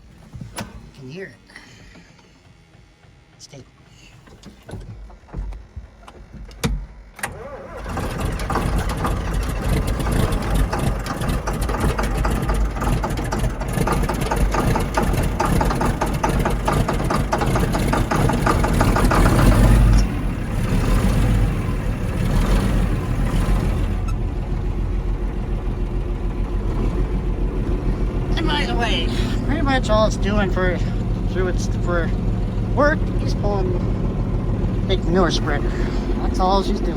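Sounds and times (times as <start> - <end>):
diesel engine cranking: 0.0 - 36.9
diesel engine running: 0.0 - 36.9.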